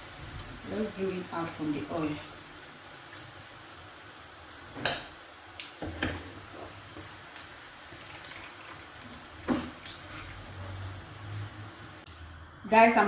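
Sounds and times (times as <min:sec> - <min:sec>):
oil sizzling: 0:00.0 - 0:13.0.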